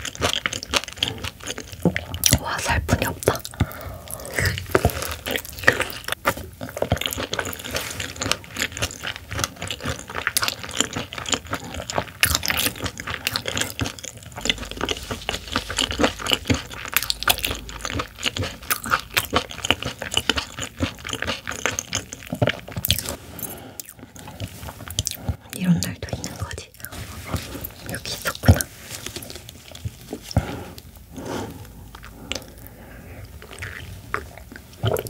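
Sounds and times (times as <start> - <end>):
chewing raw fish: 0.0 - 35.0.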